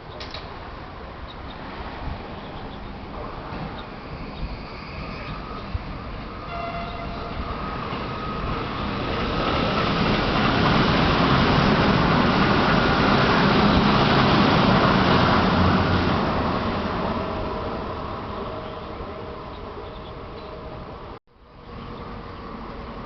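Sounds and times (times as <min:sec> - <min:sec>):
electric train passing: 0:00.5 - 0:23.0.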